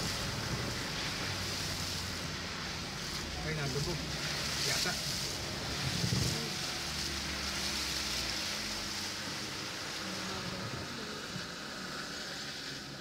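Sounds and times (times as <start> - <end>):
tyres splashing through water: 0.0 - 13.0.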